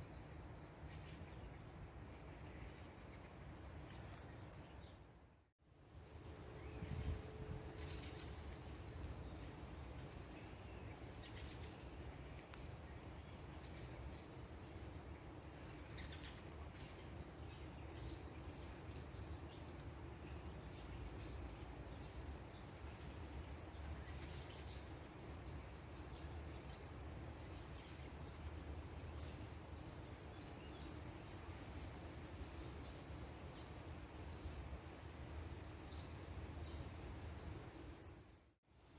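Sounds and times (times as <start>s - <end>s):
small birds chirping: 6.0s - 38.6s.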